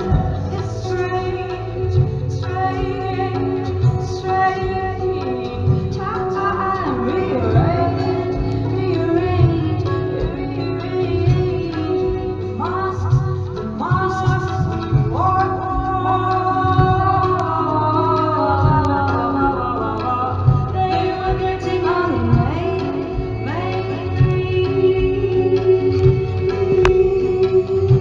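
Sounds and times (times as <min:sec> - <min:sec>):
guitar: 0:00.0 - 0:28.0
hand drums: 0:00.0 - 0:28.0
woman singing: 0:00.0 - 0:28.0.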